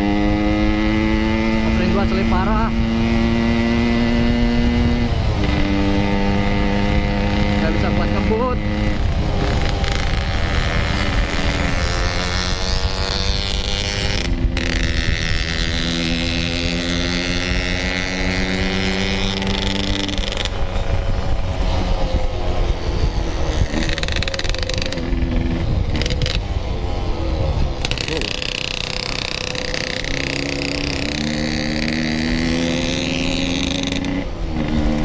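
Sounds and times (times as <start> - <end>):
motorcycle engine running: 0.0 - 35.0
wind on microphone: 0.0 - 35.0.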